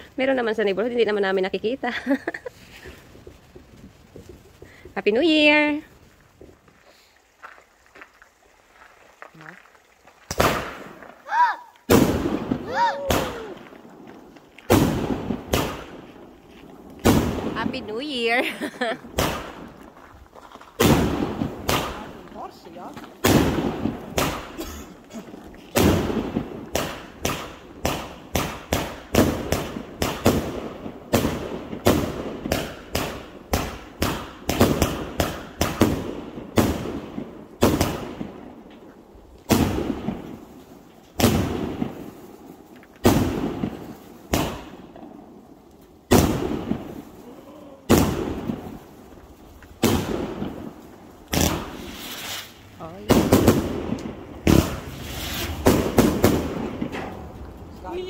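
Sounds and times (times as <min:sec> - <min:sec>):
fireworks bangs: 0:10.2 - 0:58.0.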